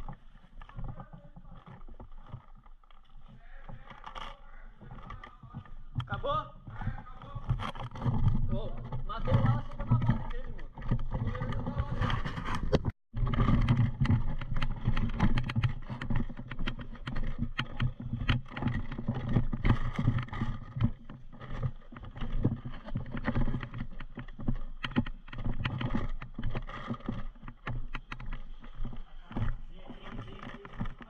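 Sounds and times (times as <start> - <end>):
irregular clicks and knocks: 0.0 - 31.0
microphone handling noise: 0.0 - 31.0.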